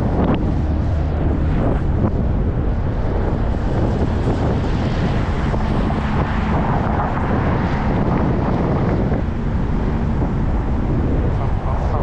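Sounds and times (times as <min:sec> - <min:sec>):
road and traffic noise: 0:00.0 - 0:12.0
wind rushing over microphone: 0:00.0 - 0:12.0.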